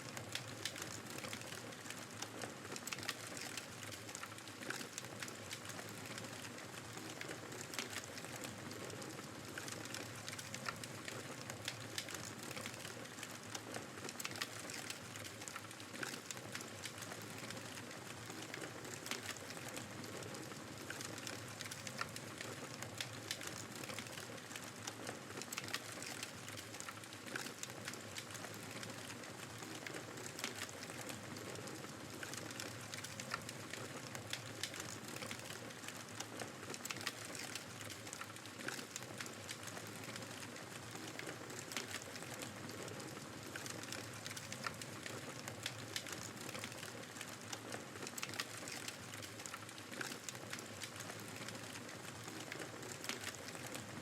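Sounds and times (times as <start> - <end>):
wood fire crackling and popping: 0.1 - 54.0.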